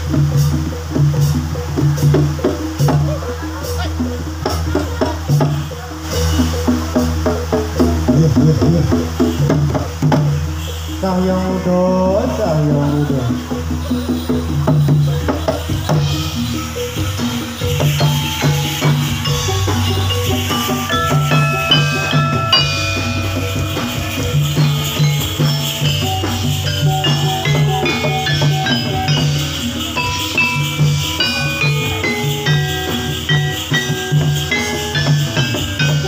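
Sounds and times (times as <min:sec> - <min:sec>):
drum beats: 0:00.0 - 0:36.0
jingling percussion: 0:00.0 - 0:36.0
low sustained tones: 0:00.0 - 0:36.0
metal-keyed gamelan notes: 0:00.0 - 0:36.0.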